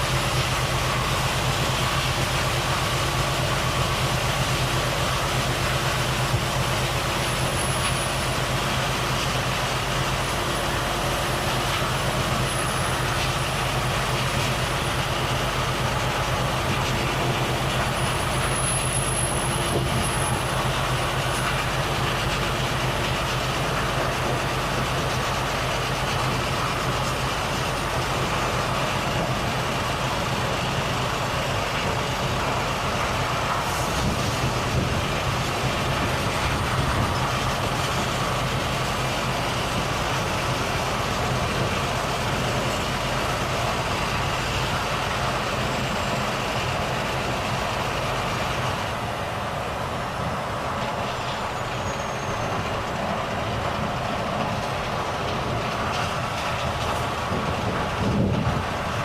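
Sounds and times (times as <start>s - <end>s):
truck diesel engine running: 0.0s - 59.0s
tyre and road noise: 0.0s - 59.0s.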